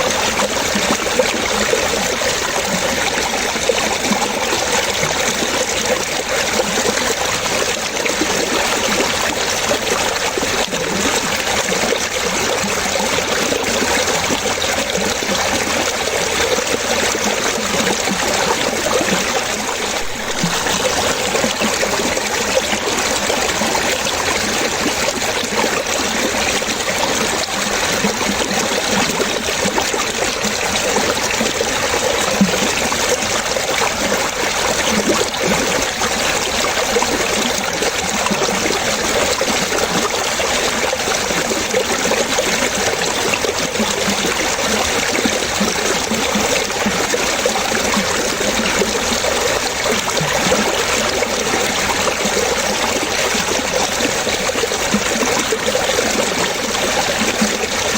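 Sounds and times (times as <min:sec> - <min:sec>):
water splashing and trickling: 0:00.0 - 0:57.9.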